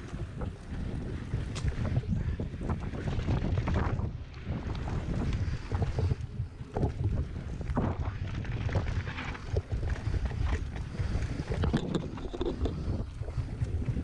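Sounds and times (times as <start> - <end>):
bike tyres clicking on dirt: 0.0 - 14.0
wind buffeting microphone: 0.0 - 14.0.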